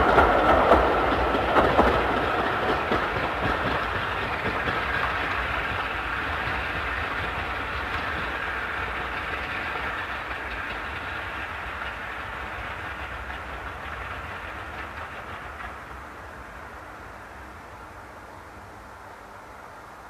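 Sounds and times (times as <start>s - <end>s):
wheel clicks over rail joints: 0.0s - 16.2s
train rolling rumble: 0.0s - 20.0s.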